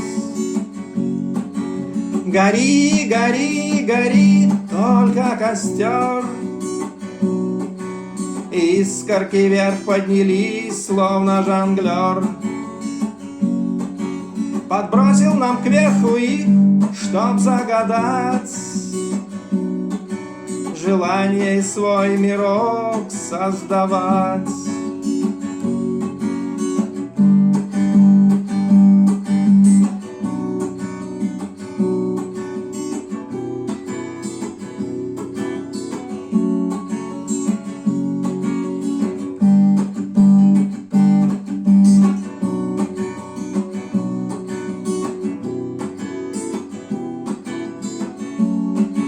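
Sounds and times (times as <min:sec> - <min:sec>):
acoustic guitar strumming chords: 0:00.0 - 0:49.0.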